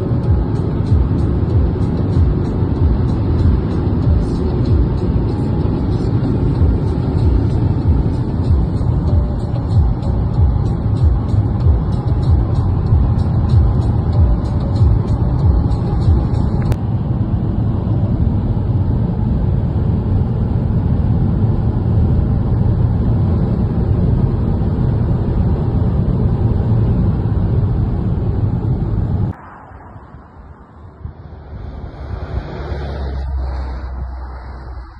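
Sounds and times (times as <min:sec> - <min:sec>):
car road noise: 0:00.0 - 0:34.9.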